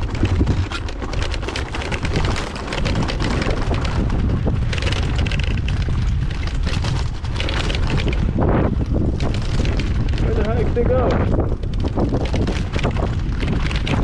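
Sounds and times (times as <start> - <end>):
small motorbike engine running: 0.0 - 14.0
wind buffeting microphone: 0.0 - 14.0.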